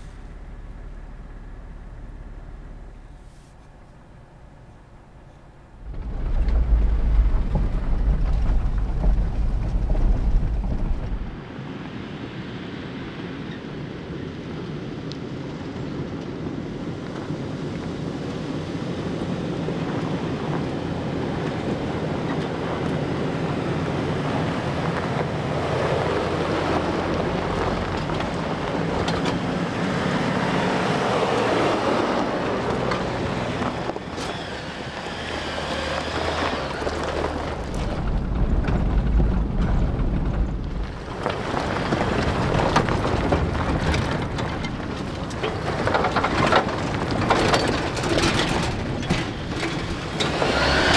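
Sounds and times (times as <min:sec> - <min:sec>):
trucks driving past: 0:00.0 - 0:50.9
wind buffeting microphone: 0:05.2 - 0:11.6, 0:13.2 - 0:50.9.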